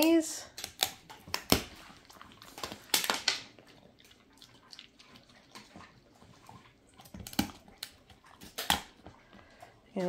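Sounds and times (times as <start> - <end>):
dog chewing a treat: 0.5 - 10.0.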